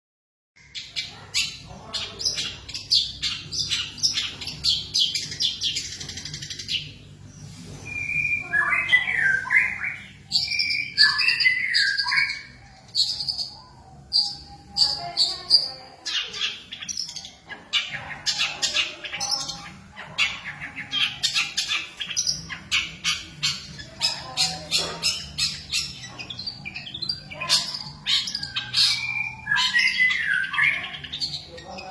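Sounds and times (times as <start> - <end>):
songbirds chirping and trilling: 0.6 - 31.9.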